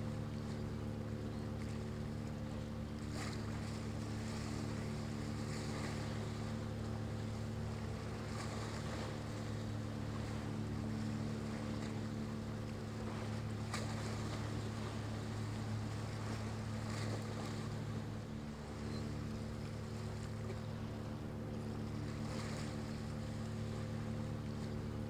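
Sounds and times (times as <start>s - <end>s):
ship diesel engine humming: 0.0s - 25.0s
waves: 0.0s - 25.0s
wind: 0.0s - 25.0s.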